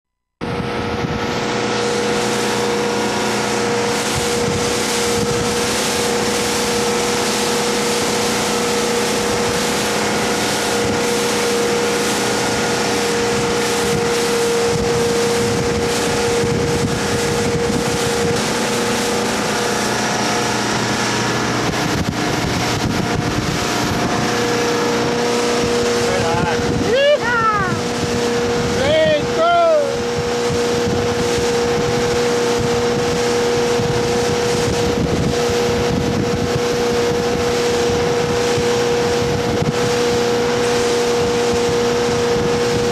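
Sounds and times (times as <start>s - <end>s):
motorboat engine drone: 0.2s - 42.9s
water rushing: 0.4s - 42.9s
wind: 0.4s - 42.9s.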